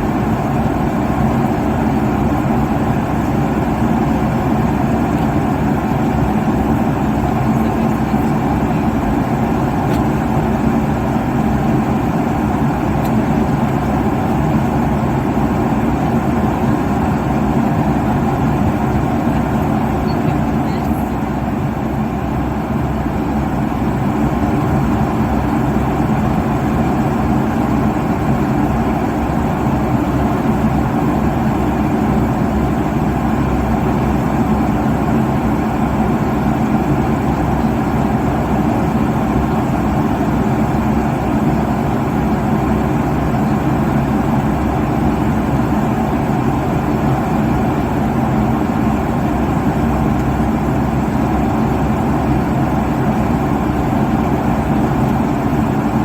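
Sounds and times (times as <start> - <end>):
airliner cabin engine and airflow noise: 0.0 - 56.0.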